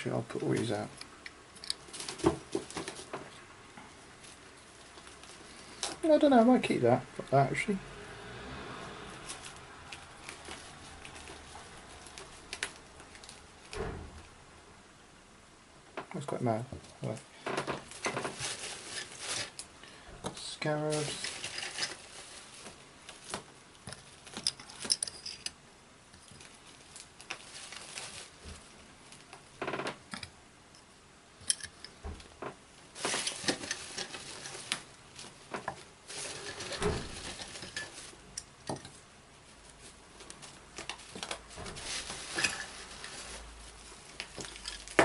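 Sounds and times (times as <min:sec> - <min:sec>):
rustling: 0:00.0 - 0:07.6, 0:08.8 - 0:14.5, 0:16.2 - 0:45.0.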